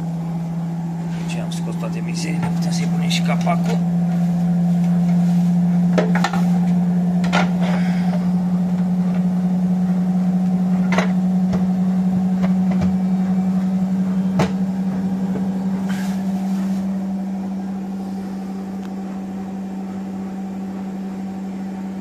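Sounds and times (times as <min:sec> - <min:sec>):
drain pump humming: 0:00.0 - 0:22.0.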